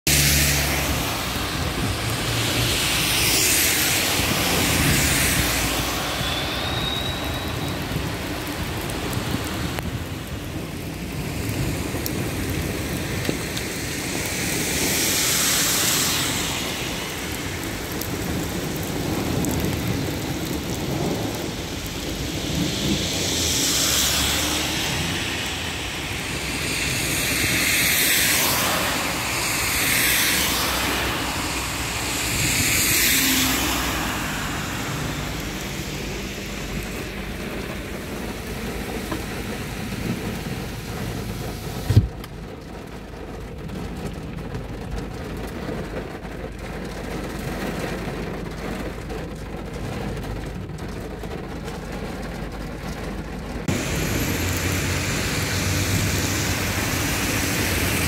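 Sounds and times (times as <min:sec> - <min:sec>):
heavy rain pouring: 0:00.0 - 0:58.0
car tyres hissing through water: 0:00.1 - 0:58.0.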